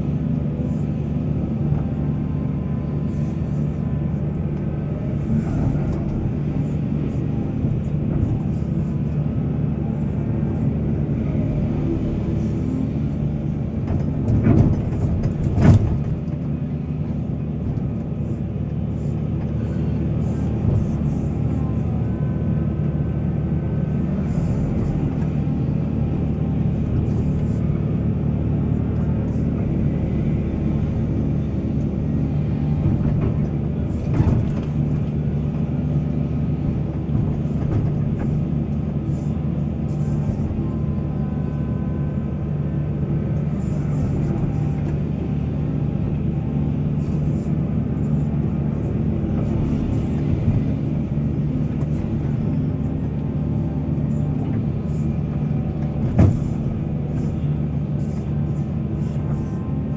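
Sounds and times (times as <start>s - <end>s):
excavator diesel engine running: 0.0s - 59.9s
faint high whining tones: 0.0s - 59.9s.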